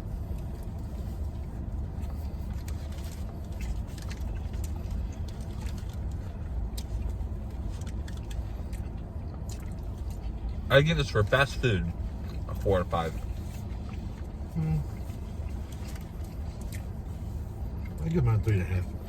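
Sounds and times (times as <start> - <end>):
car idling rumble inside cabin: 0.0 - 19.0
clicks and rustles of people eating: 0.0 - 19.0.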